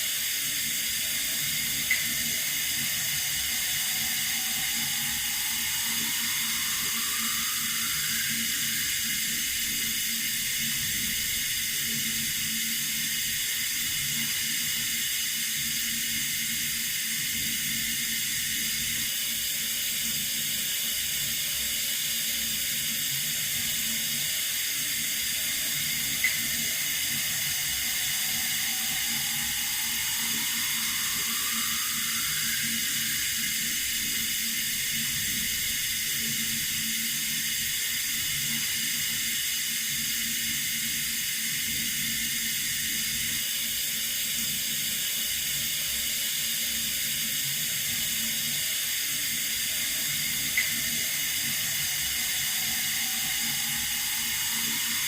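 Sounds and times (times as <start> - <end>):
water running from tap: 0.0 - 55.0.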